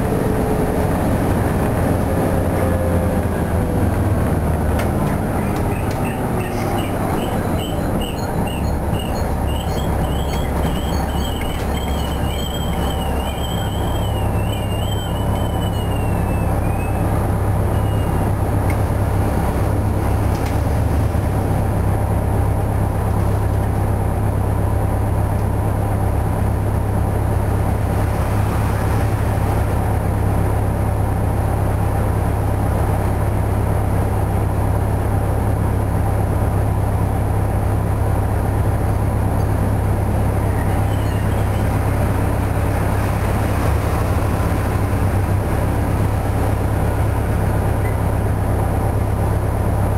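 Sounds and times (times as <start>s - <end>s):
bus diesel engine idling: 0.0s - 27.8s, 29.4s - 49.9s.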